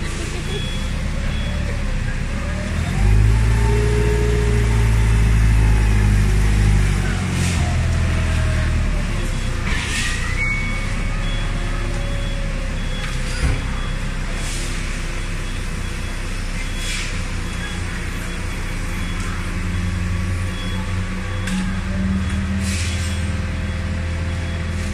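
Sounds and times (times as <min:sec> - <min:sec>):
forklift engine running: 0:00.0 - 0:24.9.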